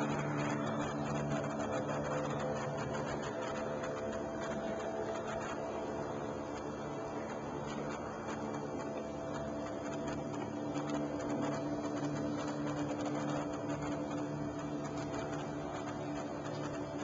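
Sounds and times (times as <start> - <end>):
propeller engines droning: 0.0 - 17.0.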